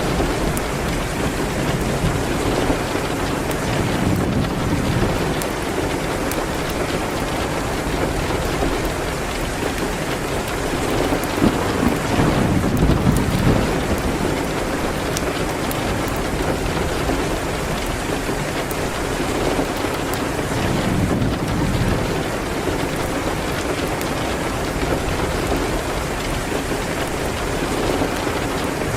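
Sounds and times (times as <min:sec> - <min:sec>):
rain hitting a window: 0:00.0 - 0:28.9
wood fire crackles: 0:00.0 - 0:28.9.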